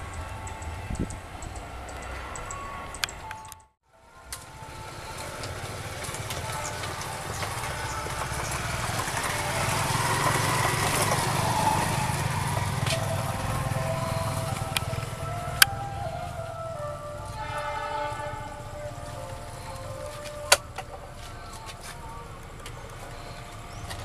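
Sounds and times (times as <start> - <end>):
locomotive engine drone: 0.0 - 24.0.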